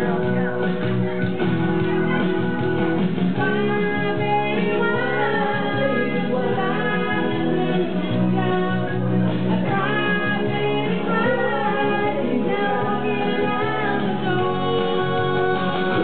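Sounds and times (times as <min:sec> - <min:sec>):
woman singing into microphone: 0:00.0 - 0:02.2, 0:03.4 - 0:16.0
instrumental backing music: 0:00.0 - 0:16.0.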